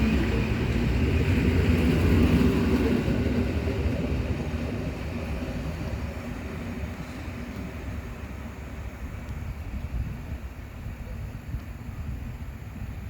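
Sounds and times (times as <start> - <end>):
electric train passing: 0.0 - 10.8.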